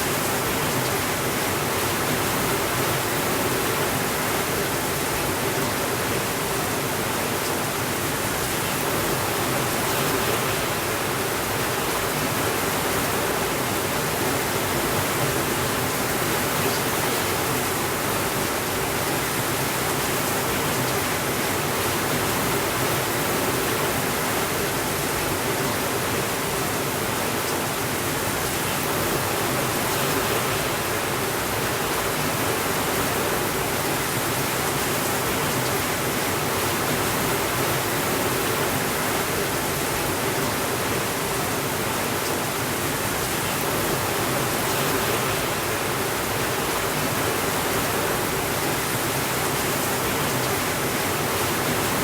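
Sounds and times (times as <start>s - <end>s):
heavy rain hiss: 0.0s - 52.0s.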